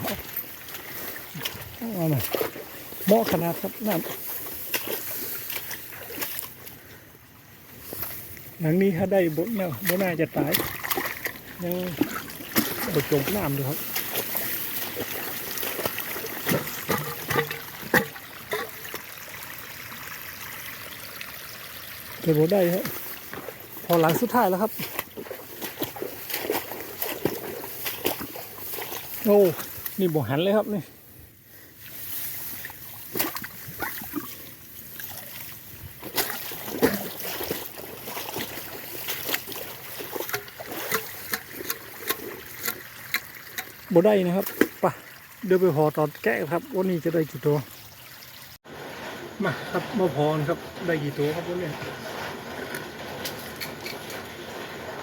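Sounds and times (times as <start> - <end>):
sharp splashes: 0.0 - 6.8, 9.3 - 30.8, 31.8 - 55.0
water trickling: 0.0 - 30.8, 31.6 - 55.0.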